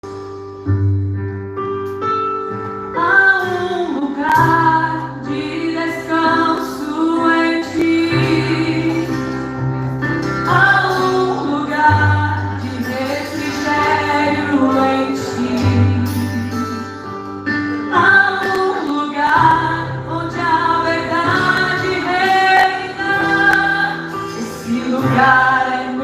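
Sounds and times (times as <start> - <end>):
worship band playing: 0.1 - 26.0
woman singing: 3.0 - 9.4, 10.4 - 17.0, 17.9 - 26.0.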